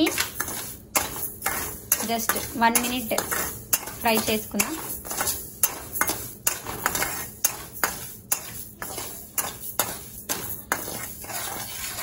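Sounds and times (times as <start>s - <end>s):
metal ladle scraping a pan: 0.0s - 12.0s.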